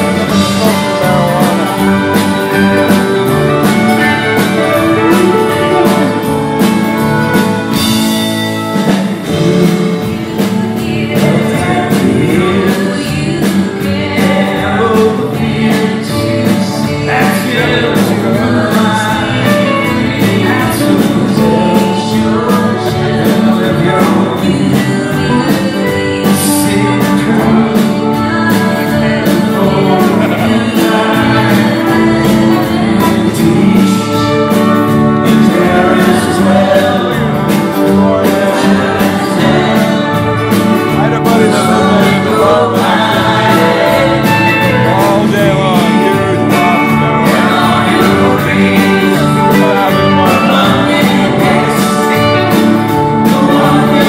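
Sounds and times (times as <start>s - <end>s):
people singing: 0.0s - 8.1s, 8.8s - 54.0s
acoustic guitar strumming: 0.0s - 54.0s
electric guitars: 0.0s - 54.0s.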